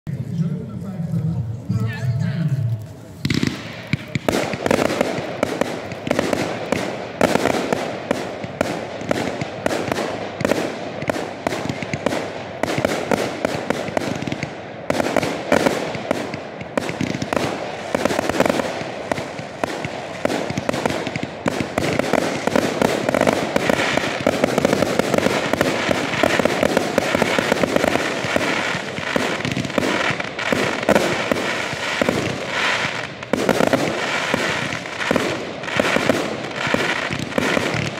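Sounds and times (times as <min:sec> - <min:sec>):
firework cake firing shots: 0:03.2 - 0:37.9
firework shells bursting: 0:03.2 - 0:37.9.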